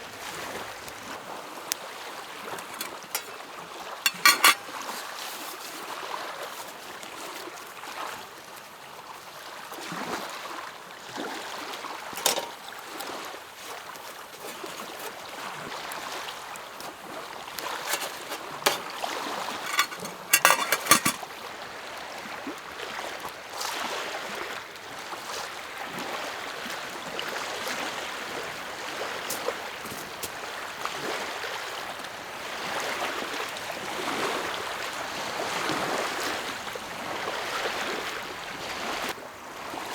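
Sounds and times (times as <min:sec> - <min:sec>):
lake waves lapping at shore: 0:00.0 - 0:19.6, 0:21.3 - 0:39.9.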